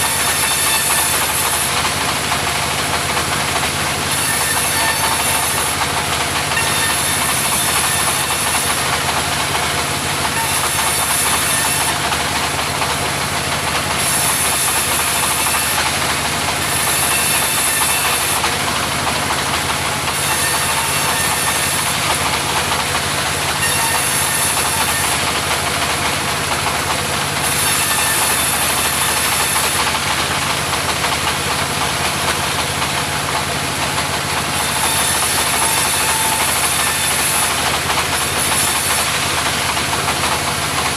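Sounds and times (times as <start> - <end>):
sawmill engine drone: 0.0 - 40.9.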